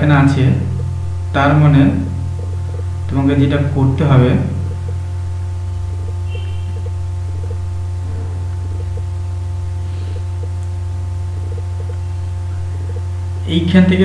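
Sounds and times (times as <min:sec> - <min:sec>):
mains hum: 0:00.0 - 0:14.0.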